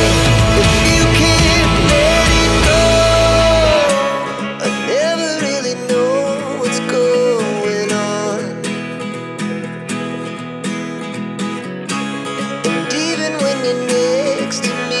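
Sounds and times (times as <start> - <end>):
pop song with acoustic guitar: 0.0 - 15.0.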